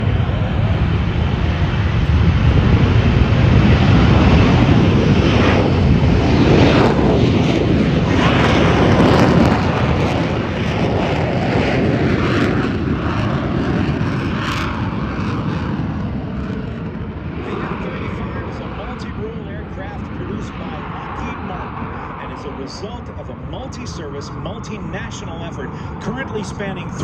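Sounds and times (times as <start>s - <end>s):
fighter jet flying past: 0.0s - 27.0s.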